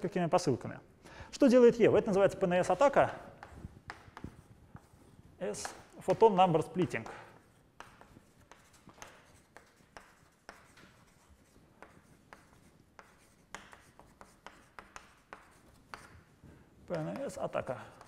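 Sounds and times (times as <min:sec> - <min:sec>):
chalk writing on chalkboard: 0:02.6 - 0:18.0.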